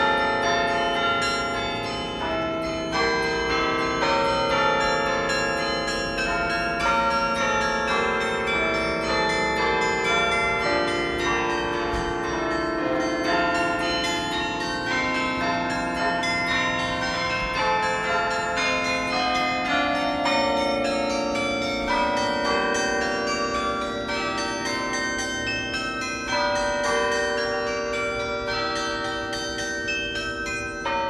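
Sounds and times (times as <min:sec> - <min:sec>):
carillon bells playing melody: 0:00.0 - 0:31.0.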